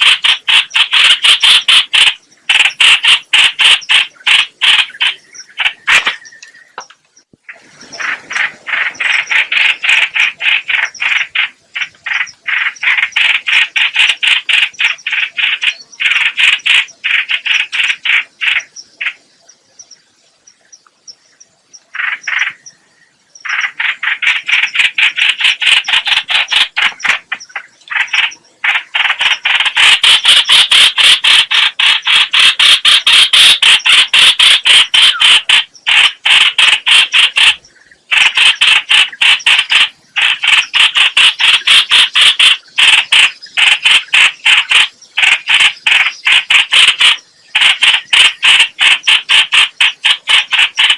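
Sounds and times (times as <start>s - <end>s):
bird chattering call: 0.0s - 6.9s, 7.5s - 19.3s, 21.8s - 22.8s, 23.4s - 50.9s.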